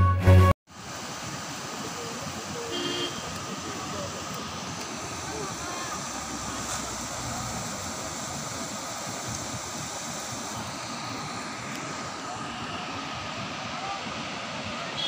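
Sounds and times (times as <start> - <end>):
flooded river rushing: 0.7 - 15.0.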